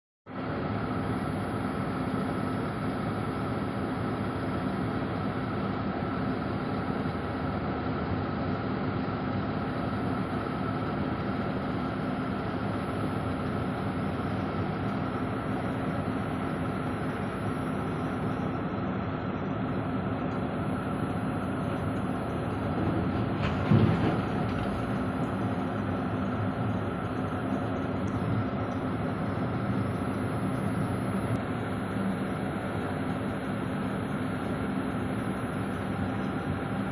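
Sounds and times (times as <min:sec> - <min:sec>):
heavy truck engine and road noise: 0:00.3 - 0:36.9.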